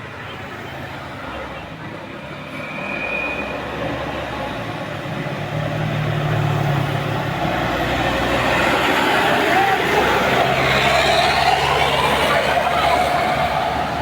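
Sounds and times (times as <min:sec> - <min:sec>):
bus passing: 0:00.0 - 0:14.0.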